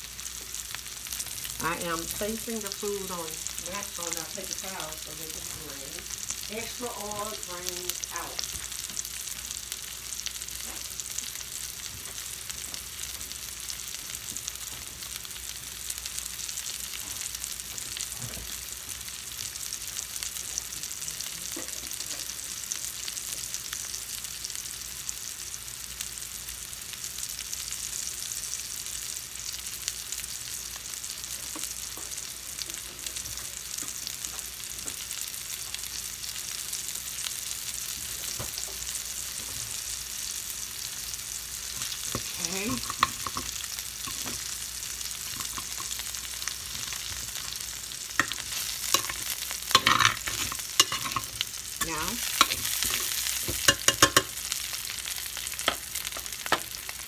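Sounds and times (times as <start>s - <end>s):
potatoes frying in oil: 0.0s - 57.0s.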